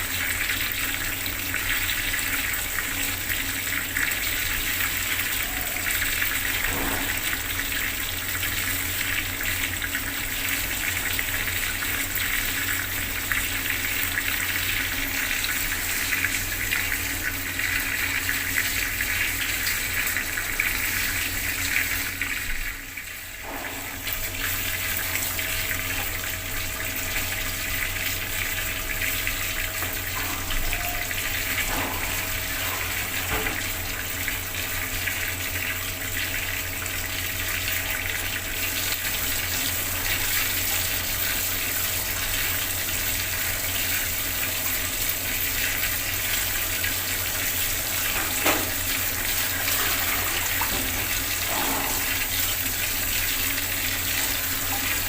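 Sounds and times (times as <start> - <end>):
water tap running: 0.0 - 55.0.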